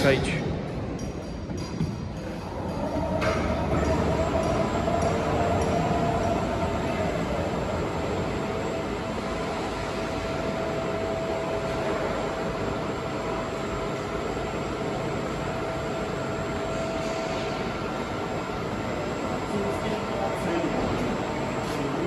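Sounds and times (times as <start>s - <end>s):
crane drive whine: 0.0s - 22.0s.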